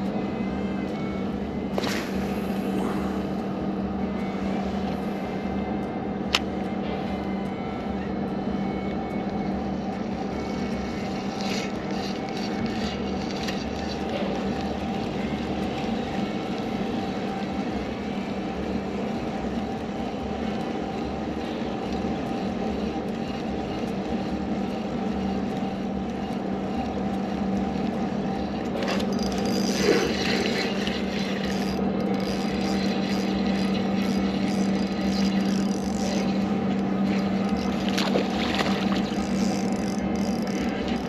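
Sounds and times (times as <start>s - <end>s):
boat motor running: 0.0s - 41.0s.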